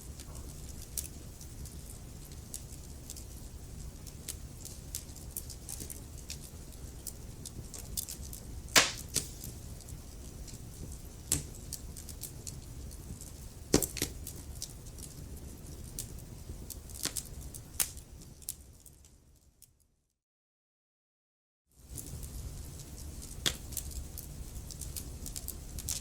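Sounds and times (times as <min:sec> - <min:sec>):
fire burning rumble: 0:00.0 - 0:19.1, 0:21.8 - 0:26.0
fire popping and snapping: 0:00.0 - 0:19.7, 0:21.8 - 0:26.0.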